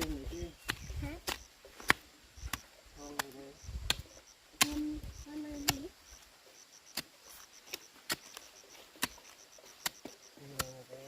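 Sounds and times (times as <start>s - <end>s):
digging tool striking earth: 0.0s - 6.0s, 6.9s - 11.0s
faint insect chirping: 0.0s - 11.0s.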